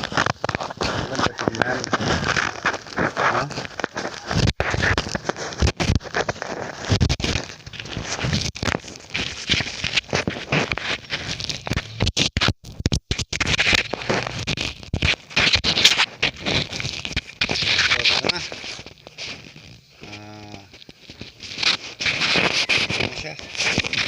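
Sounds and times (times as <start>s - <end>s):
microphone handling noise: 0.0s - 24.0s
rubber and tape rubbing and scraping: 0.0s - 24.0s.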